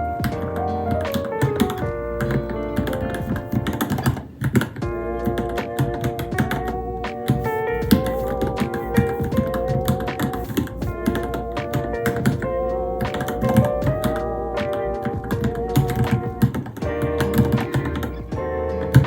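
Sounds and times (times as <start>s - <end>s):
background music melody: 0.0s - 19.0s
mechanical keyboard typing: 0.2s - 18.2s.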